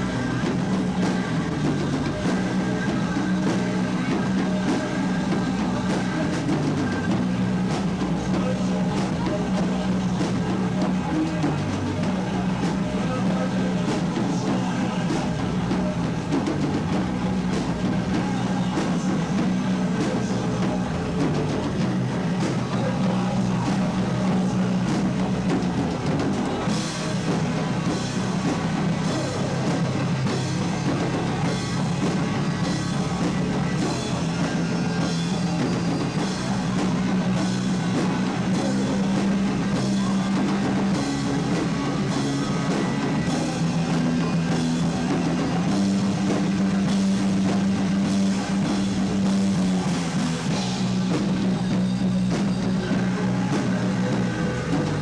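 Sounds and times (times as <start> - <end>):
bass and guitar heavy notes: 0.0 - 55.0
drum kit pounding: 0.0 - 55.0.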